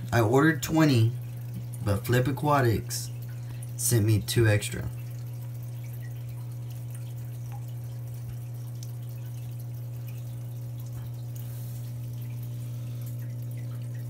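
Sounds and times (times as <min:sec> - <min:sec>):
air pump humming: 0:00.0 - 0:14.0
water trickling and dripping: 0:00.0 - 0:14.0.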